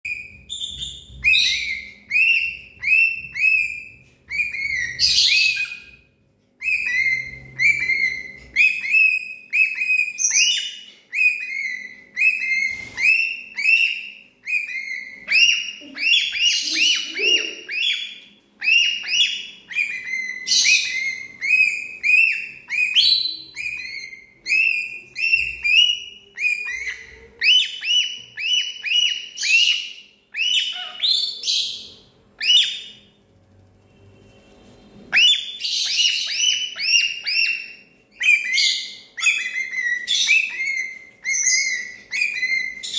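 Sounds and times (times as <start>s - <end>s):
parrot squawking: 0.1s - 6.0s, 6.6s - 33.1s, 35.1s - 42.9s.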